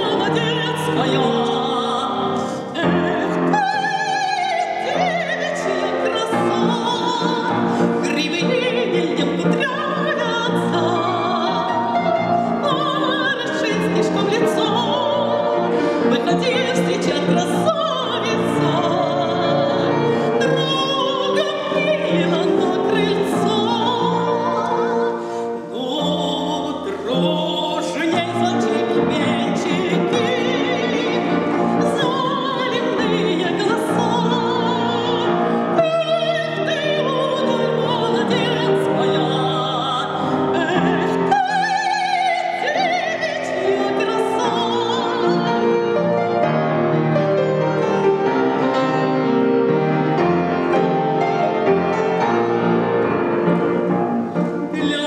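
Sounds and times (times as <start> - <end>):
woman singing operatically: 0.0 - 46.5, 54.6 - 55.0
piano accompaniment: 0.0 - 55.0.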